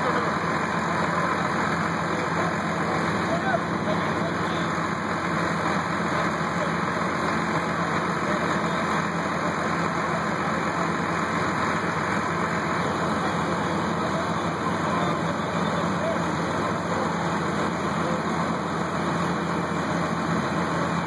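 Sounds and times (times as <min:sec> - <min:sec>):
fire truck engines droning: 0:00.0 - 0:21.0.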